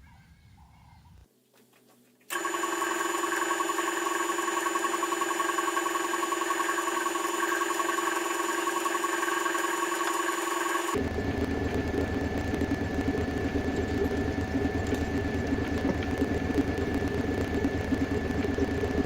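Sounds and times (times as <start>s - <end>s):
electric motor whining: 2.3s - 19.0s.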